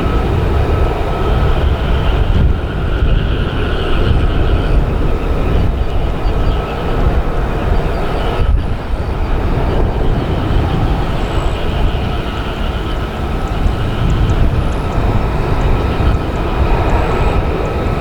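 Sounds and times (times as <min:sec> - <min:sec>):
jet engine rumble and whine: 0:00.0 - 0:18.0.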